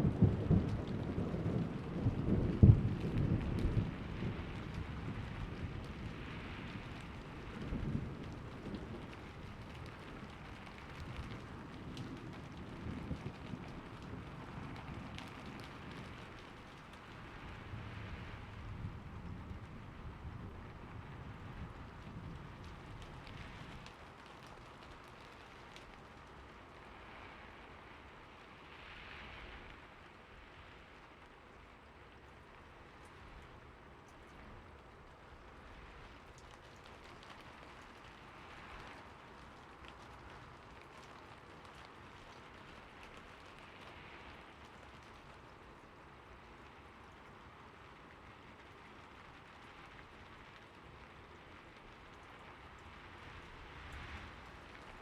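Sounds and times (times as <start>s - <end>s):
raindrops ticking: 0.0s - 26.8s, 32.9s - 55.0s
faint steady rain: 0.0s - 55.0s.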